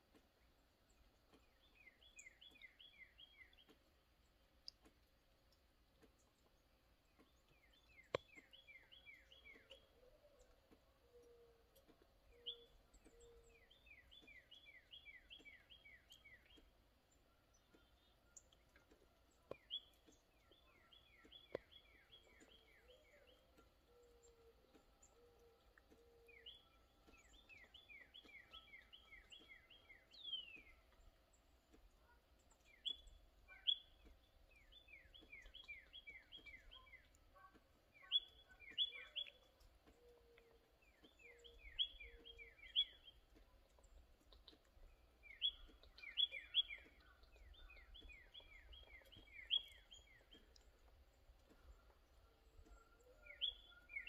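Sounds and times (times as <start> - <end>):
songbird singing falling notes: 0.0 - 54.0.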